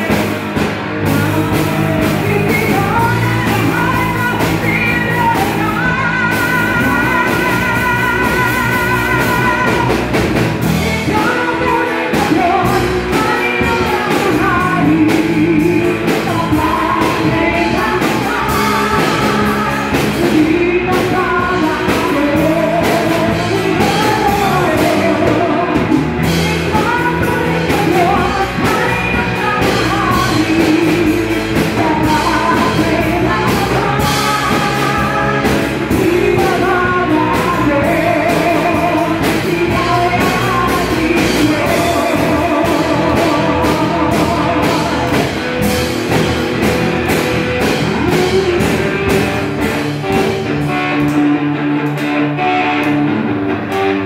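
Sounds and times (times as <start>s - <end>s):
woman singing into a microphone: 0.0s - 45.8s, 47.5s - 51.2s
drums: 0.0s - 54.0s
electric guitar: 0.0s - 54.0s.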